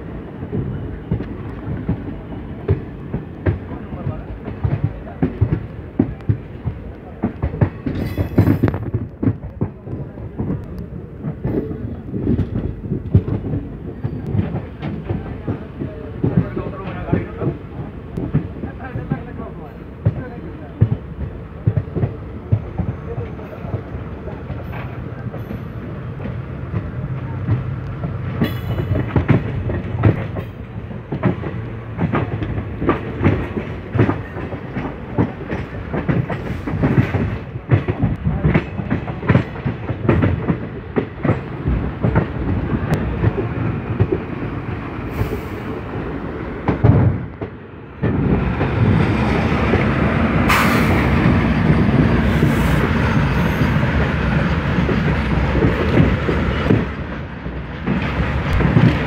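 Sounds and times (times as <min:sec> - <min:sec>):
passing freight train rumble: 0:00.0 - 0:59.0
train wheels clacking over rail joints: 0:00.4 - 0:19.4, 0:20.0 - 0:59.0.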